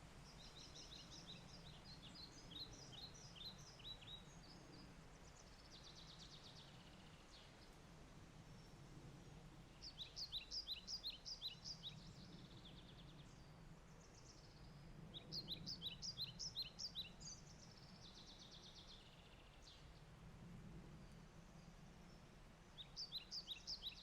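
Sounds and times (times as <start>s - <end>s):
faint low background noise: 0.0s - 24.0s.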